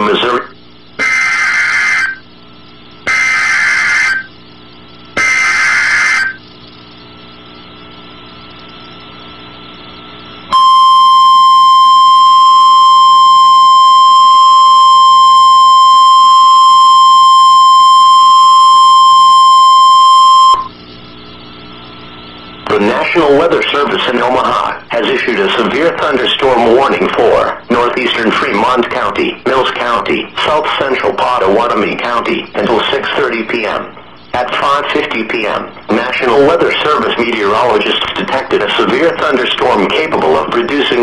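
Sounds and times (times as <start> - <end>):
screeching digital data bursts: 0.0 - 41.0
steady warning alarm tone: 0.0 - 41.0.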